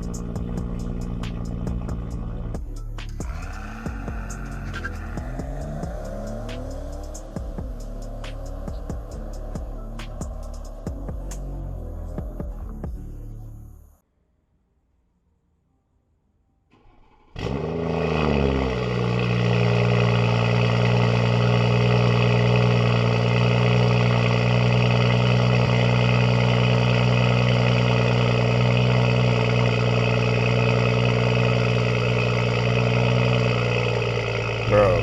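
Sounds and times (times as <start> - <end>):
car engine starting and idling: 0.0 - 14.0, 16.7 - 35.0.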